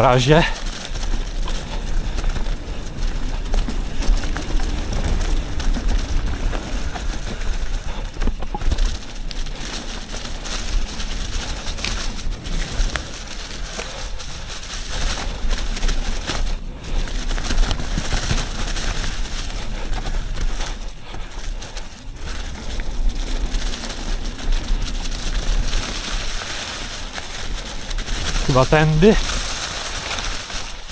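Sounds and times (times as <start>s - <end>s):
bike rattling over bumps: 0.0s - 30.9s
tyre noise on dirt: 0.0s - 30.9s
wind rumble on microphone: 0.0s - 30.9s.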